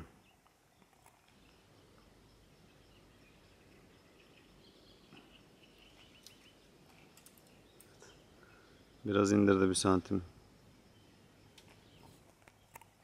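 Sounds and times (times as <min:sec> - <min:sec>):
faint bird chirps: 0:00.0 - 0:13.0
faint outdoor ambience: 0:00.0 - 0:13.0.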